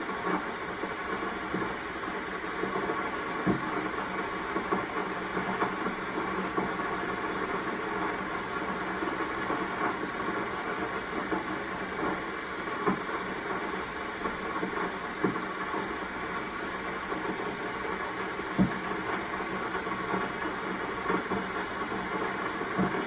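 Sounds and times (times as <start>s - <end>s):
film projector whirring: 0.0s - 23.0s.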